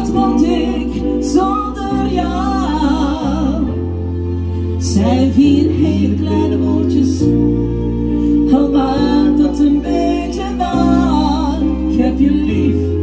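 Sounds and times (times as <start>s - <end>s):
person singing: 0.0s - 4.0s, 4.8s - 13.0s
bass notes: 0.0s - 13.0s
keyboard chords: 0.0s - 13.0s.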